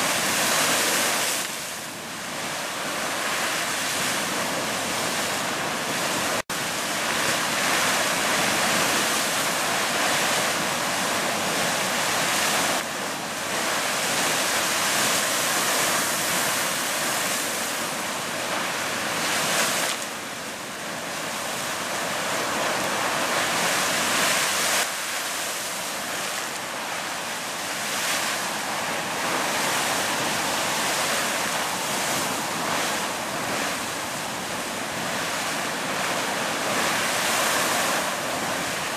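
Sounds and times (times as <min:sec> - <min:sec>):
geyser erupting: 0:00.0 - 0:38.9.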